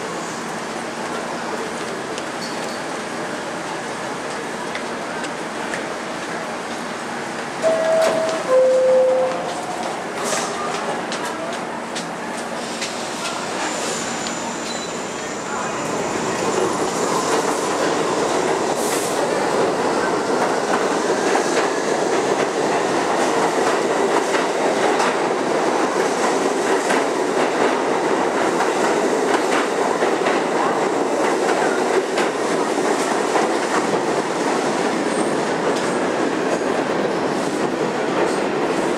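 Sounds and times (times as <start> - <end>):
subway train running on track: 0.0 - 38.9.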